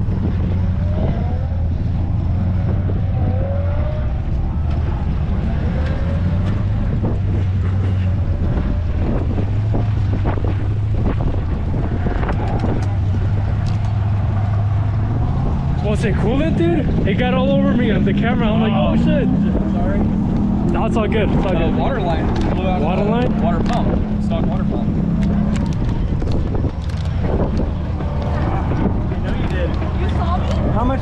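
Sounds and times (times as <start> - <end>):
vehicle engine running: 0.0 - 31.0
wind on microphone: 0.0 - 31.0.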